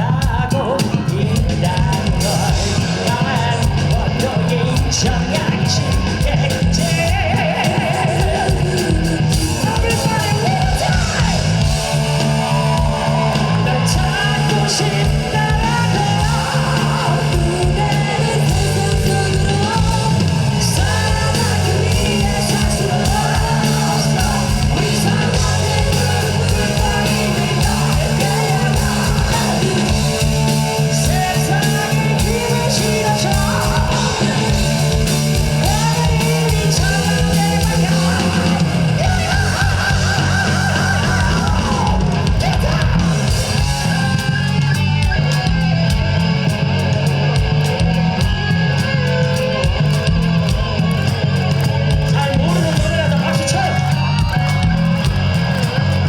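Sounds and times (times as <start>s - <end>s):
hard rock band playing: 0.0s - 56.0s.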